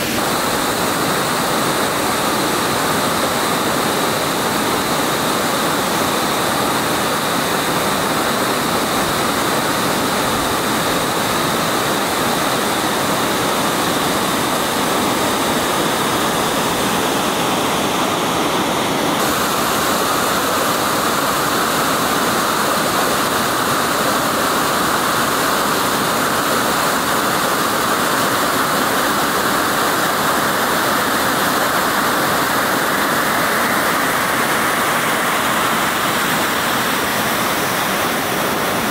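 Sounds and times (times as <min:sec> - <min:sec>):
waterfall rushing over rock: 0:00.0 - 0:38.9.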